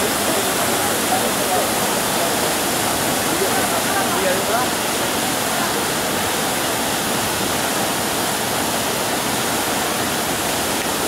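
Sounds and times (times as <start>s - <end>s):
rushing turbulent water: 0.0s - 11.0s.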